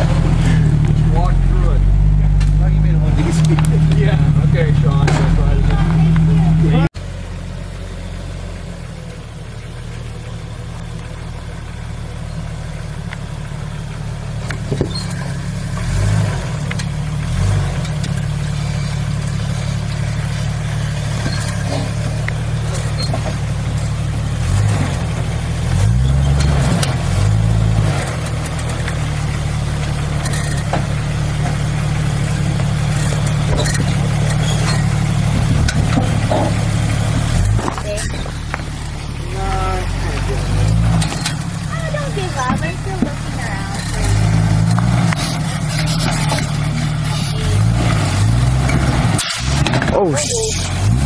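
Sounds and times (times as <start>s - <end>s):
car engine running and revving: 0.0s - 51.0s.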